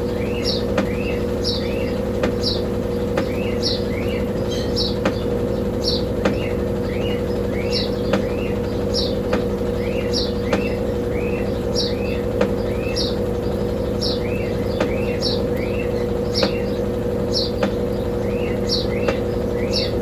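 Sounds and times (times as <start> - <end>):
small bird chirping: 0.0 - 20.0
washing machine motor hum: 0.0 - 20.0.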